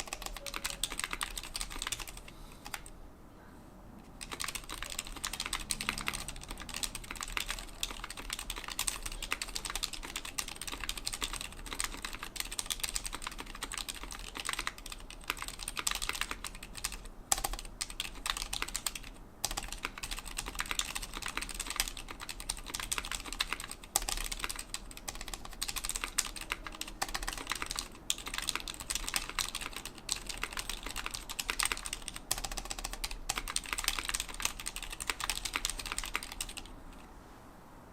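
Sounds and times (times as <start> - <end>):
fast typing on mechanical keyboard: 0.0 - 2.9, 4.2 - 37.0.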